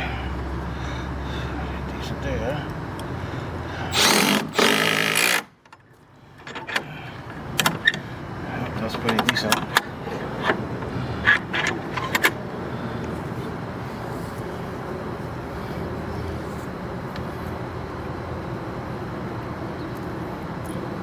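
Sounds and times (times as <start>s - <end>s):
steady background rumble: 0.0s - 21.0s.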